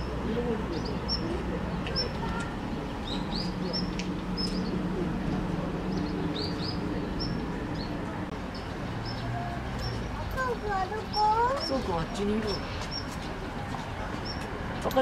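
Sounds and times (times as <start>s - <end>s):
low background murmur: 0.0s - 15.0s
small birds chirping: 0.0s - 15.0s.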